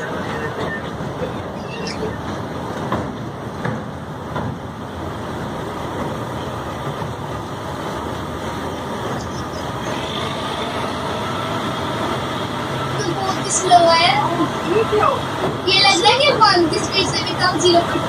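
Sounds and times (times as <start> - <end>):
train rumbling over bridge: 0.0 - 18.0.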